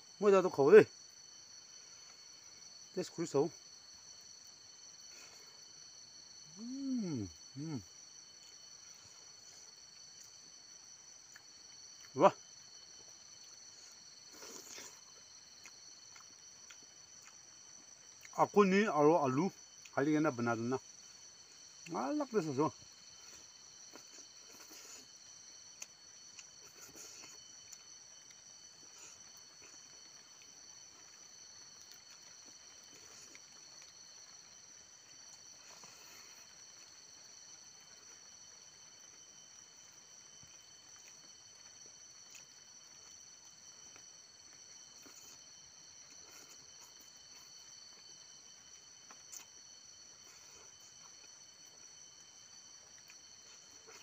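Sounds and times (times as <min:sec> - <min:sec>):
high insect chirring: 0:00.0 - 0:54.0.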